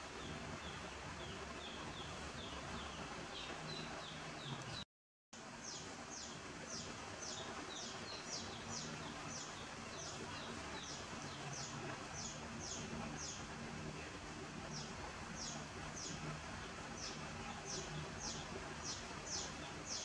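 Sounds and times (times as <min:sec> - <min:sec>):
steady background hiss: 0:00.0 - 0:04.8, 0:05.4 - 0:20.0.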